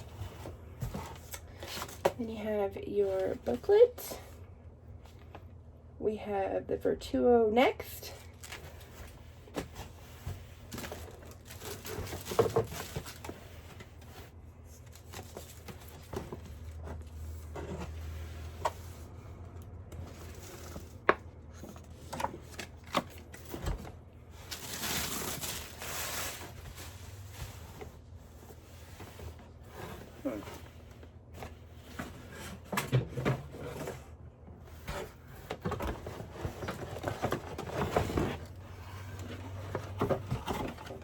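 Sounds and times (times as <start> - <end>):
rustling cardboard and plastic: 0.0 - 4.3, 8.0 - 41.0.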